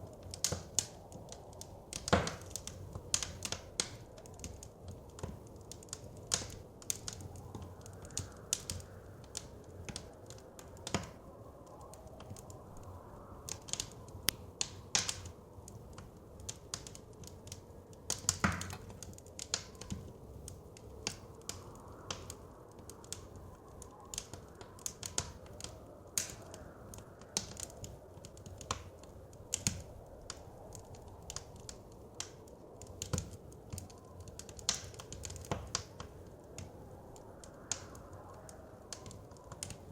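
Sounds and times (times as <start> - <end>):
blizzard wind rushing: 0.0 - 39.9
wood fire crackling and popping: 0.0 - 39.9.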